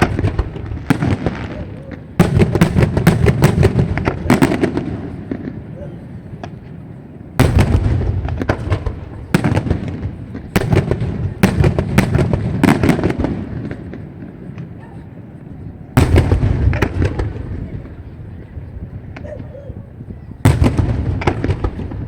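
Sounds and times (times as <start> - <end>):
firework crackling: 0.0 - 22.0.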